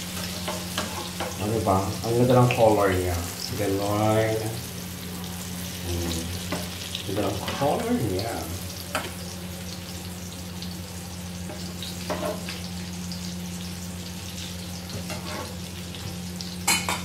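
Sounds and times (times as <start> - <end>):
omelette sizzling in oil: 0.0 - 17.0.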